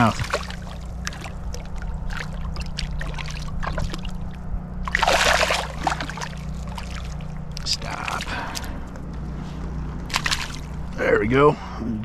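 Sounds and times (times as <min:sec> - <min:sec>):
fish splashing in water: 0:00.0 - 0:09.0, 0:10.0 - 0:10.9.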